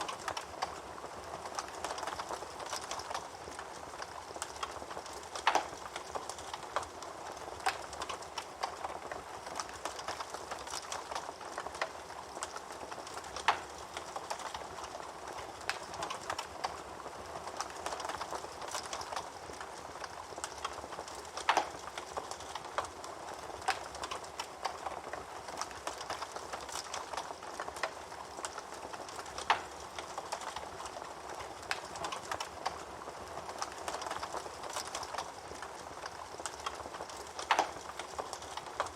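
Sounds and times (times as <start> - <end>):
fire crackling and popping: 0.0 - 38.9
fire hissing in fireplace: 0.0 - 38.9.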